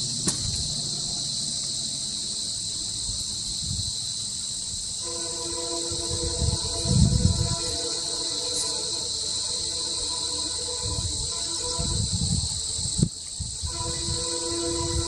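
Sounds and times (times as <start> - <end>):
faint steady hum: 0.0 - 15.0
insects chirping: 0.0 - 15.0.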